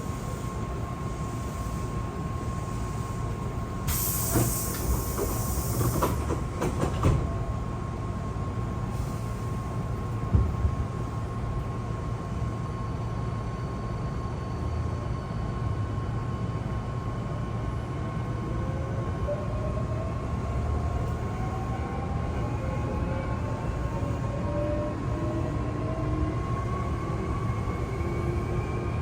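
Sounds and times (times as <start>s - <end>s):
train rumbling from inside: 0.0s - 29.0s.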